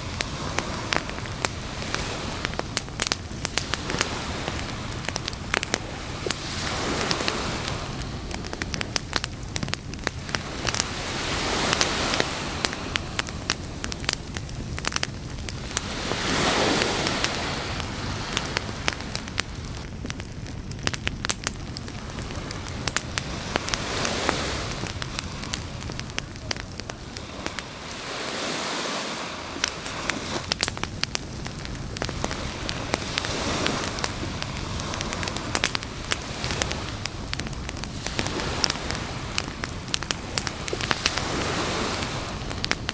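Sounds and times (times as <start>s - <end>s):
campfire crackling and popping: 0.0s - 42.9s
sea waves washing: 0.0s - 42.9s.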